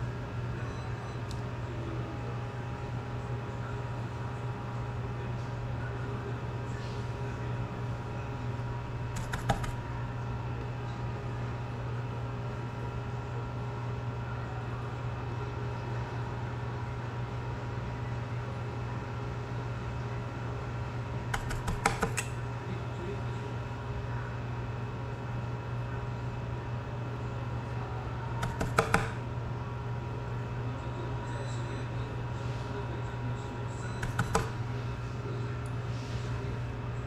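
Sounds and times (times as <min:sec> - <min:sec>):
electrical hum: 0:00.0 - 0:15.6, 0:17.6 - 0:37.0.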